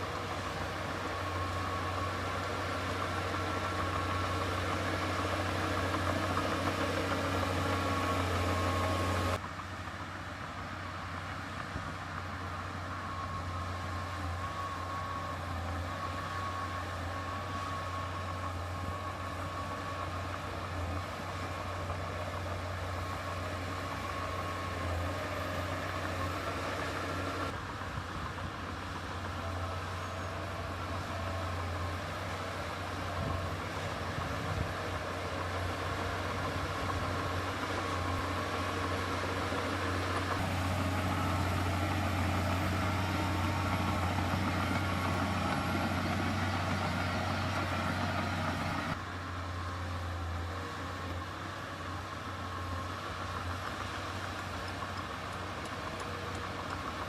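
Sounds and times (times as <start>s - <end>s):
faint engine whine: 0.0s - 57.0s
heavy diesel machinery engine running: 0.0s - 57.0s.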